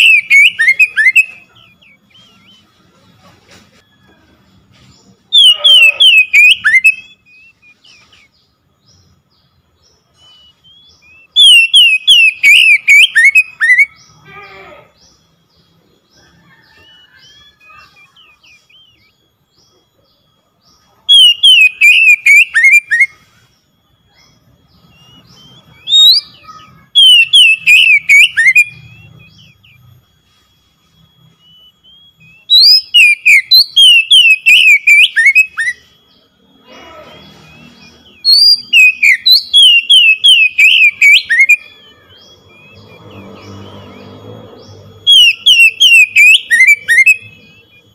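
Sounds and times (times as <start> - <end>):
bird singing whistled notes: 0.0 - 3.2, 3.9 - 47.9.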